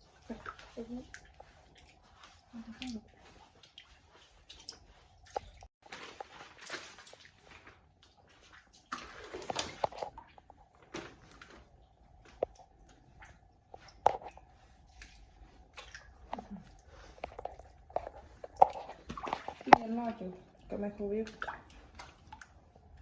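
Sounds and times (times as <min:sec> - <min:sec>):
squelching in wet mud: 0:00.0 - 0:23.0.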